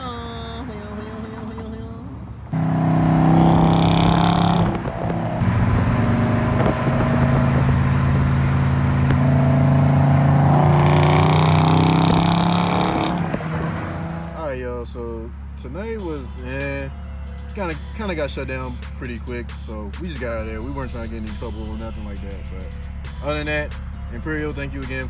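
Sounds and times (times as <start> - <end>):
cars driving on highway: 0.0 - 25.0.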